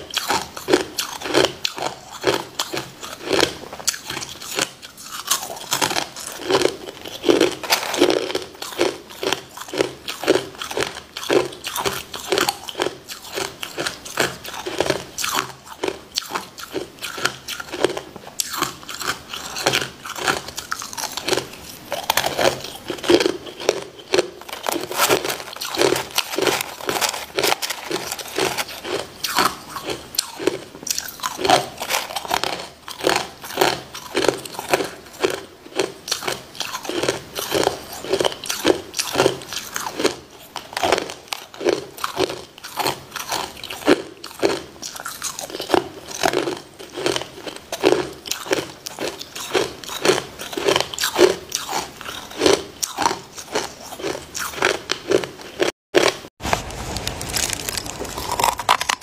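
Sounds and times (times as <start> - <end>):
ice being crunched and chewed: 0.0 - 59.0.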